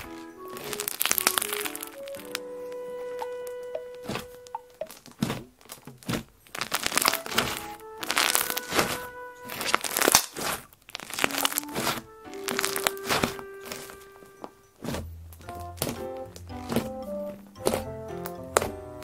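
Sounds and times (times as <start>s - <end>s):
slime squishing and crackling: 0.0s - 2.4s, 4.0s - 14.1s, 14.8s - 19.0s
soft background music: 0.0s - 5.0s, 6.9s - 10.2s, 11.2s - 19.0s.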